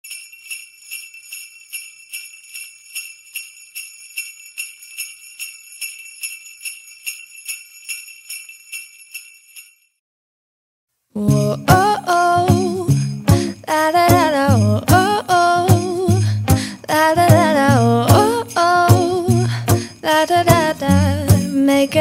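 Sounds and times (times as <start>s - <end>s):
jingle bells shaken: 0.0s - 10.0s, 11.2s - 22.0s.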